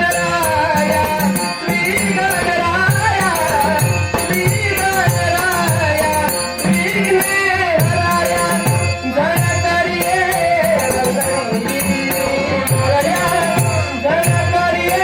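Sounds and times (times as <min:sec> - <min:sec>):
man singing a devotional hymn: 0:00.0 - 0:15.0.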